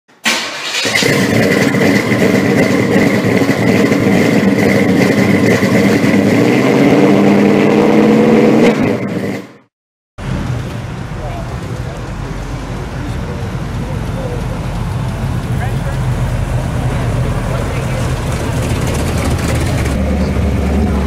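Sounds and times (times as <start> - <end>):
car engine running: 0.9 - 9.5, 10.2 - 21.0.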